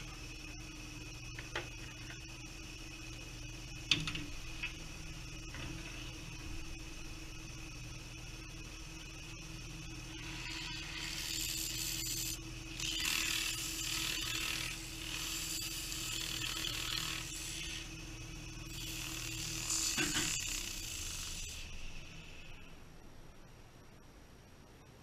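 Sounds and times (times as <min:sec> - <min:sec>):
lathe motor hum: 0:00.0 - 0:22.6.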